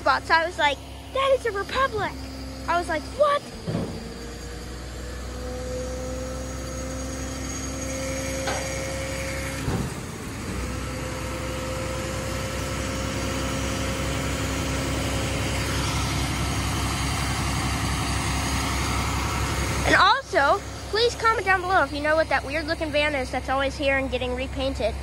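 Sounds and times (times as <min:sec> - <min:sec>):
garbage truck diesel engine running: 0:00.0 - 0:25.0.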